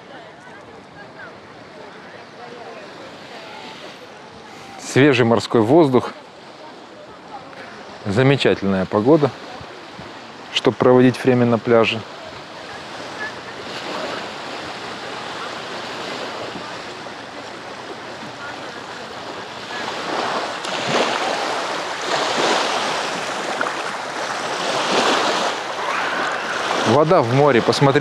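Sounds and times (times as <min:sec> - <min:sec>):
breaking water surges: 0:00.0 - 0:28.0
waves washing onto shore: 0:00.0 - 0:28.0.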